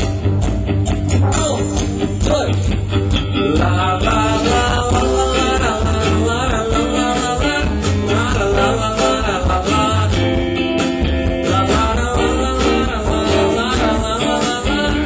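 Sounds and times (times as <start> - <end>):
bass guitar: 0.0 - 15.0
drums: 0.0 - 15.0
electric guitar: 0.0 - 15.0
person singing: 1.2 - 10.6, 11.3 - 15.0.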